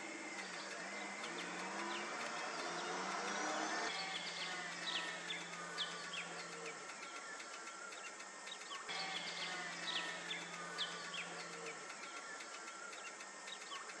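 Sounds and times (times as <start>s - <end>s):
low hum: 0.0s - 7.9s, 8.8s - 13.4s
birds chirping: 0.0s - 14.0s
insects buzzing: 0.0s - 14.0s.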